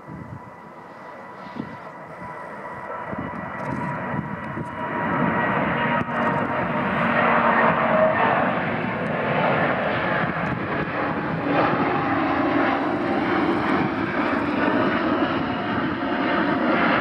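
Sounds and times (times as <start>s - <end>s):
jet airliner roar: 0.0s - 17.0s.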